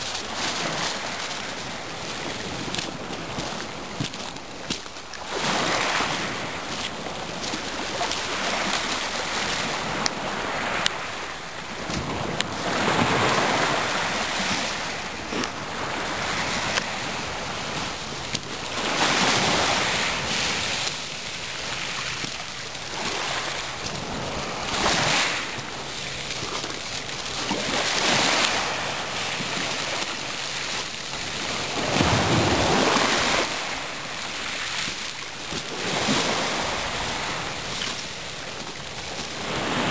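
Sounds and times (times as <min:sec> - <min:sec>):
small waves on pebble shore: 0:00.0 - 0:39.9
wind: 0:00.0 - 0:39.9.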